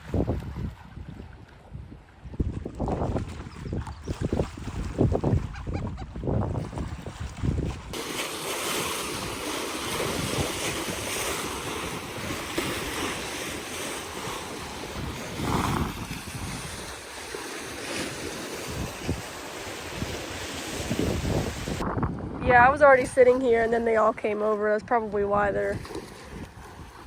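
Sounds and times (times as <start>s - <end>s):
wind blowing over microphone: 0.0s - 27.0s.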